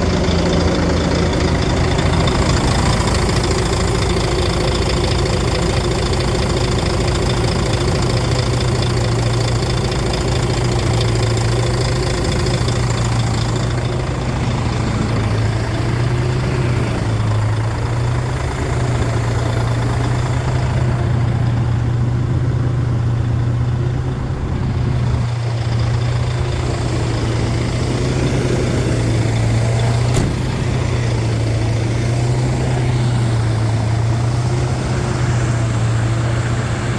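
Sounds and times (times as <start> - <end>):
wood chipper diesel engine: 0.0 - 36.9.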